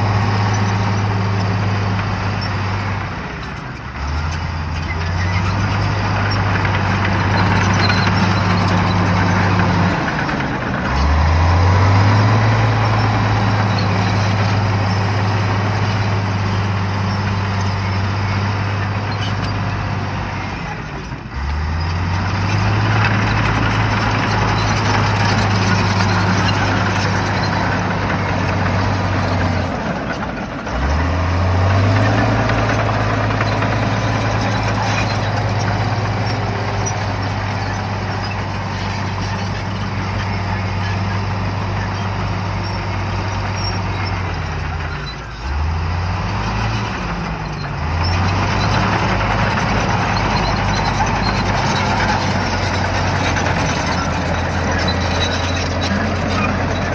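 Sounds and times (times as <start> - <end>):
bulldozer diesel engine running hard: 0.0 - 56.9.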